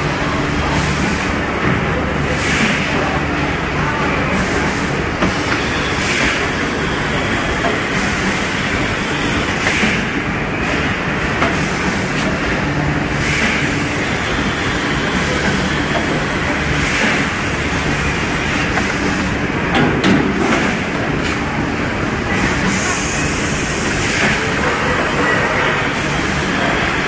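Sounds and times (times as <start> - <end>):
production line machinery din: 0.0 - 27.0.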